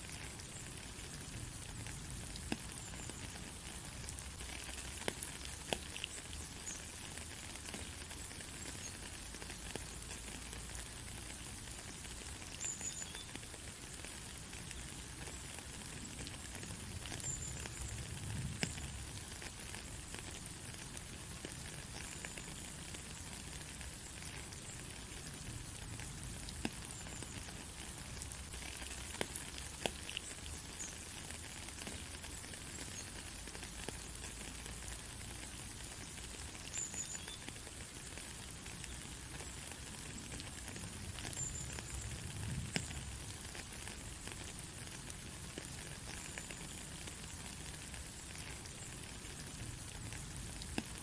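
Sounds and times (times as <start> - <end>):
rain drop ticks: 0.0 - 51.0
rain hissing: 0.0 - 51.0.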